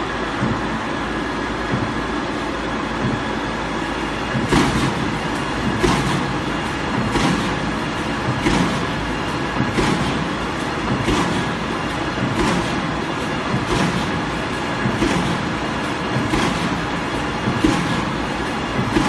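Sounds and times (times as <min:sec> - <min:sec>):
noisy rhythmic surge: 0:00.0 - 0:19.0.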